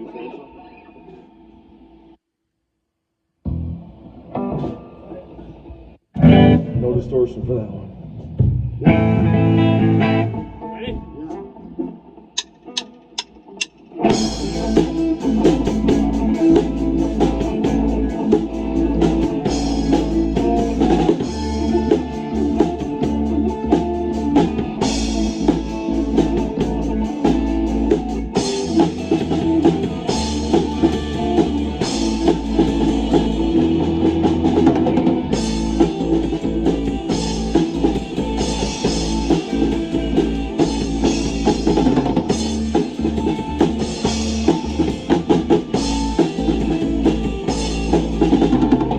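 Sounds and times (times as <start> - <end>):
clean electric guitar: 0.0 - 2.2, 3.4 - 48.9
bass guitar: 3.4 - 48.9
drum kit: 6.2 - 10.4, 12.4 - 48.9.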